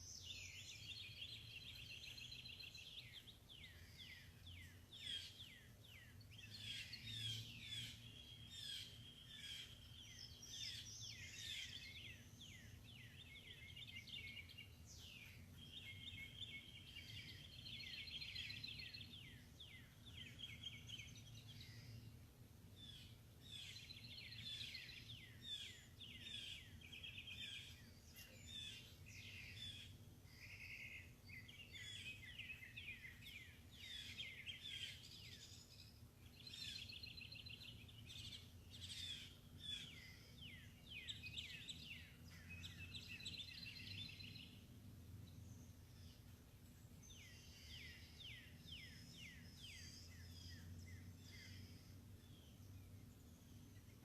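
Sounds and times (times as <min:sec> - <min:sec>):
faint songbirds singing: 0:00.0 - 0:54.0.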